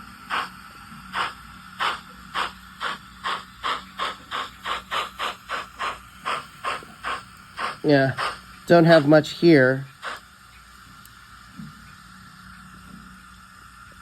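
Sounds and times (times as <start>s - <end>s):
faint steady hum: 0.0s - 14.0s
model steam locomotive chuffs: 0.0s - 14.0s.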